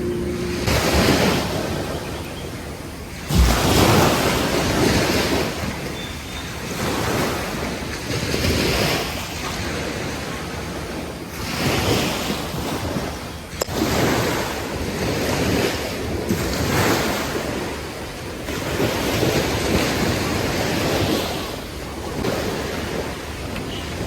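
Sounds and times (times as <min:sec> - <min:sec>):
sea waves washing onto beach: 0:00.0 - 0:24.0
wind gust on microphone: 0:00.0 - 0:24.0.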